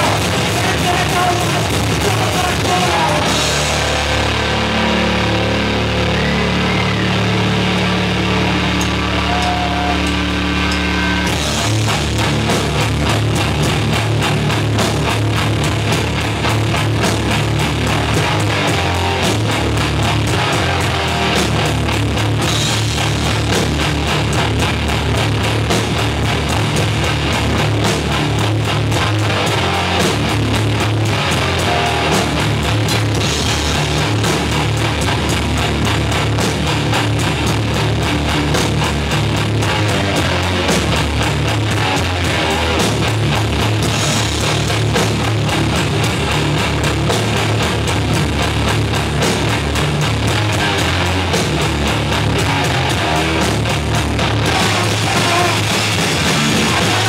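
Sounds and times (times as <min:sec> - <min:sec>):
drum kit fast beat: 0:00.0 - 0:57.0
rock band playing: 0:00.0 - 0:57.0.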